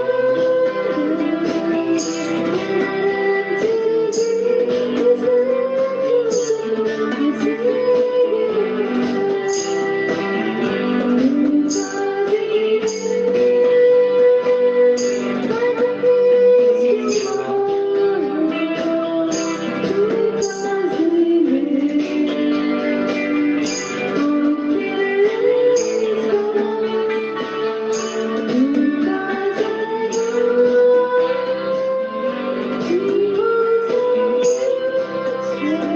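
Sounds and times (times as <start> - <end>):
guitar music: 0.0 - 35.9.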